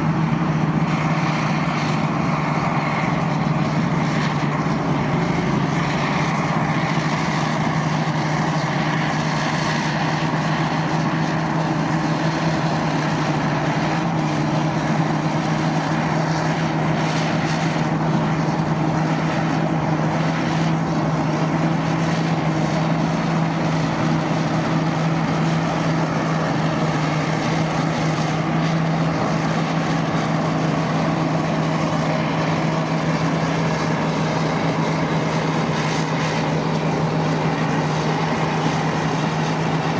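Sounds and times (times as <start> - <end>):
tractor diesel engines droning: 0.0 - 39.9.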